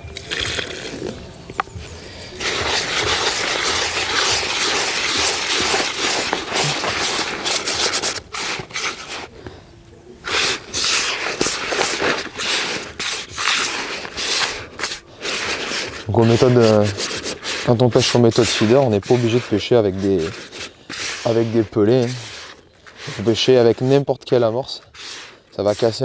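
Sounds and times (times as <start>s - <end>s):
hands rubbing gritty bait in bowl: 1.6s - 9.3s, 10.2s - 26.0s.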